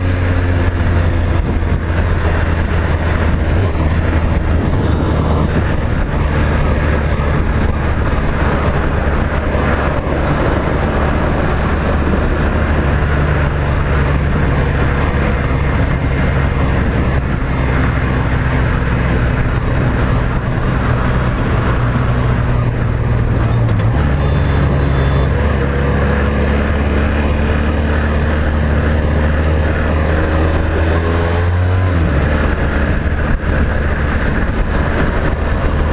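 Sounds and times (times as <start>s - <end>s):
motorcycle engine cruising: 0.0s - 35.9s
wind rush: 0.0s - 35.9s.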